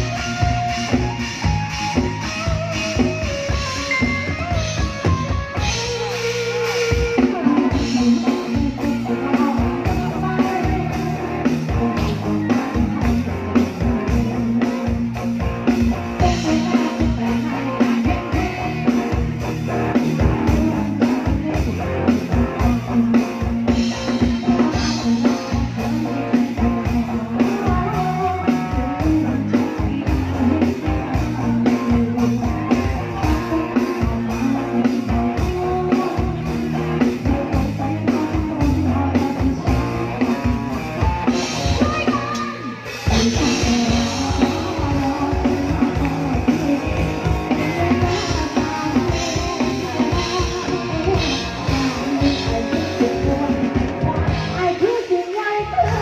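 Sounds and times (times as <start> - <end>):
live band with drums and guitar: 0.0 - 56.0.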